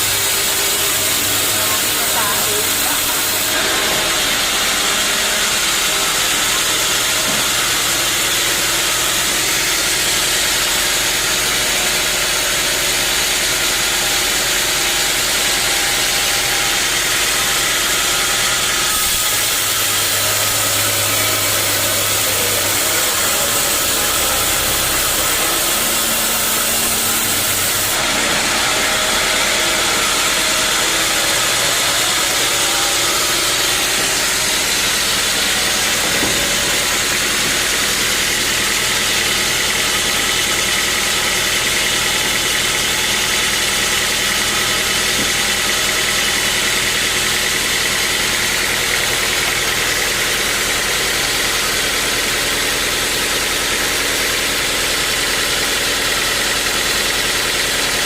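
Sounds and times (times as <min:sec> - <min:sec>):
saw blade hiss: 0:00.0 - 0:57.1
sawmill engine drone: 0:00.0 - 0:58.0.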